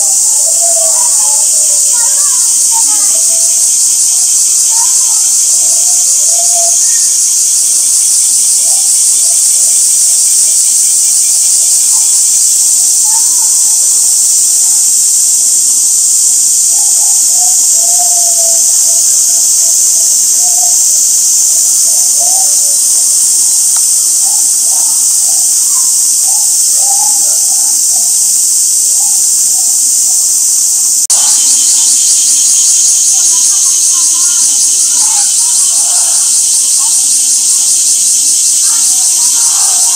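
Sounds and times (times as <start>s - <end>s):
cicada chorus droning: 0.0s - 39.9s.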